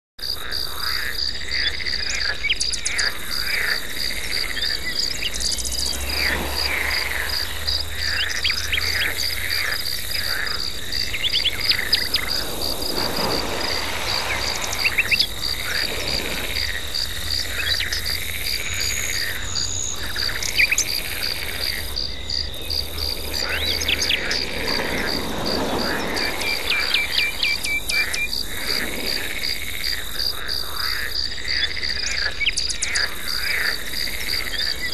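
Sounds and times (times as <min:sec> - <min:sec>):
frog calls: 0:00.2 - 0:34.9
insects chirping: 0:00.2 - 0:34.9.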